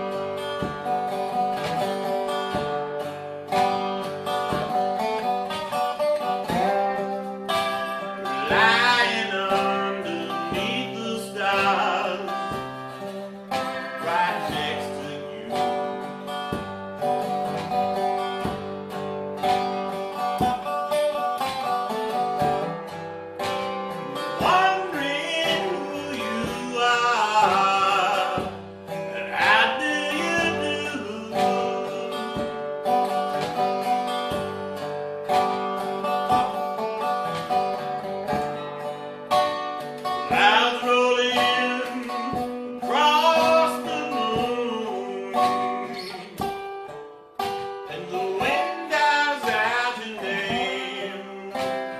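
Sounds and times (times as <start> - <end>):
bending guitar lead melody: 0.0 - 51.9
strummed blues guitar: 0.0 - 51.9.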